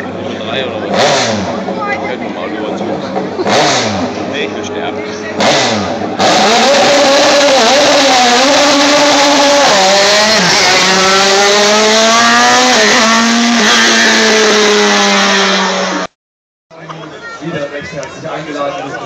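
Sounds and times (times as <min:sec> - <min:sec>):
race car engine passing: 0:00.0 - 0:16.1.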